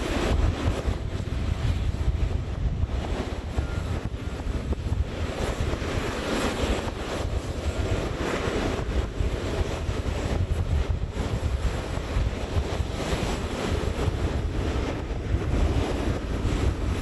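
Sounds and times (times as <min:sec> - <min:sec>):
distant jet engines rumbling: 0:00.0 - 0:17.0
wind buffeting microphone: 0:00.0 - 0:17.0.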